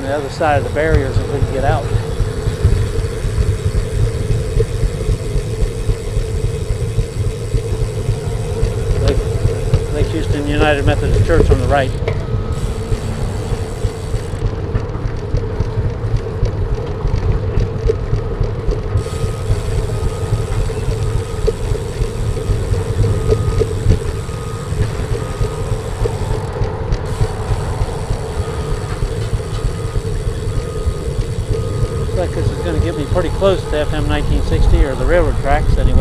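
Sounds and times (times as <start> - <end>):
bicycle tyres rolling on concrete: 0.0 - 36.0.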